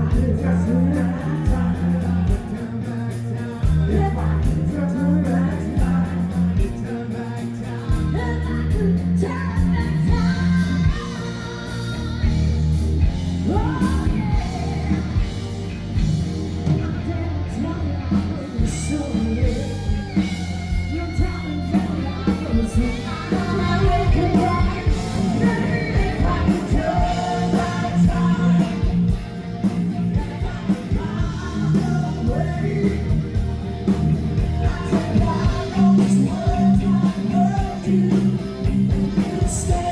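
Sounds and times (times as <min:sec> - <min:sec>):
person singing: 0:00.0 - 0:15.5, 0:16.6 - 0:29.3, 0:29.9 - 0:33.6, 0:34.4 - 0:39.9
electric guitar: 0:00.0 - 0:39.9
live rock band: 0:00.0 - 0:39.9.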